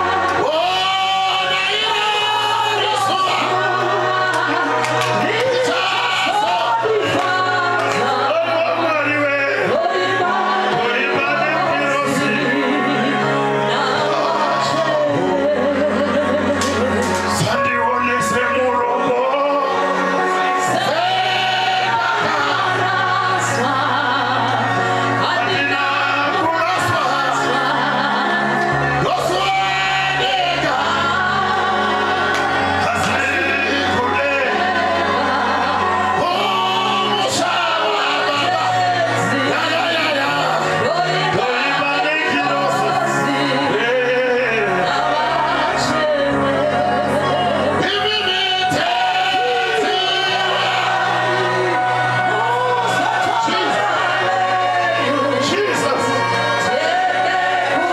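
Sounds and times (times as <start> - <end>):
choir singing gospel: 0.0 - 57.9
low instrumental accompaniment: 0.0 - 57.9.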